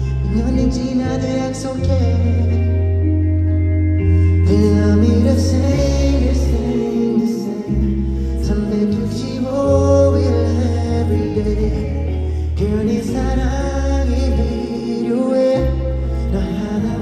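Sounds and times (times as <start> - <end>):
live music with deep bass: 0.0 - 17.0
person singing: 0.0 - 17.0.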